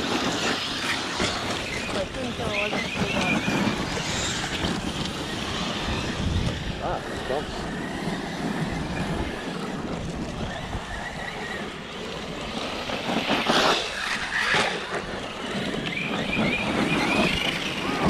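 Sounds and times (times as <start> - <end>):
electric motors whining: 0.0 - 18.0
wind on microphone: 0.0 - 18.0.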